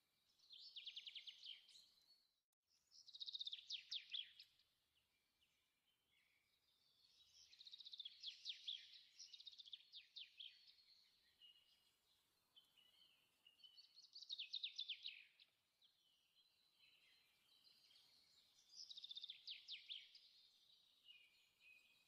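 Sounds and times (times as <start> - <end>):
songbird chirps and trills: 0.0 - 22.0.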